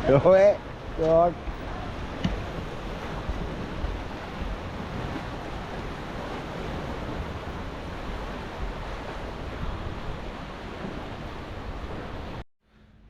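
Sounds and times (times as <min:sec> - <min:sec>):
wind buffeting microphone: 0:00.0 - 0:12.4
sea and surf: 0:00.0 - 0:13.0.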